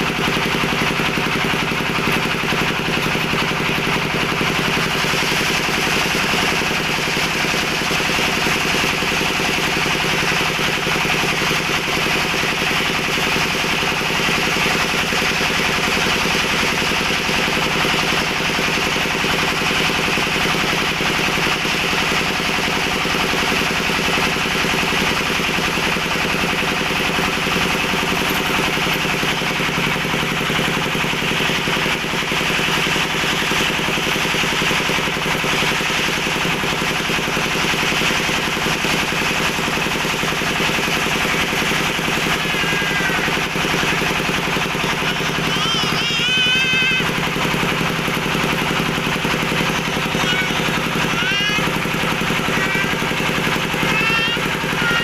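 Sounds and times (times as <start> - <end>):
motor-like drone with rattling: 0.0 - 55.0.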